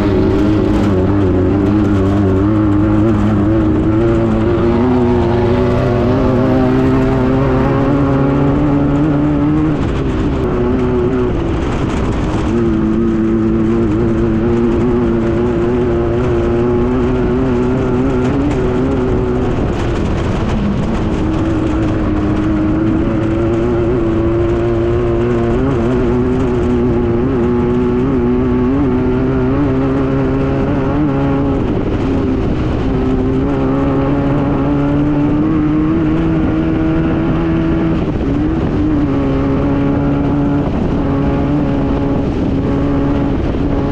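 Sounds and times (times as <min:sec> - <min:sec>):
buggy engine revving hard: 0:00.0 - 0:43.9.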